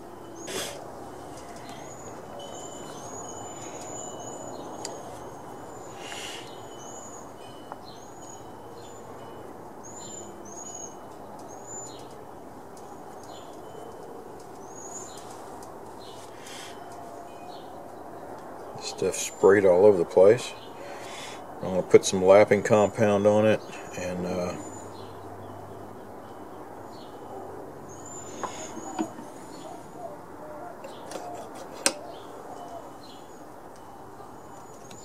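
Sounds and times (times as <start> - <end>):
small birds chirping: 0.2 - 35.0.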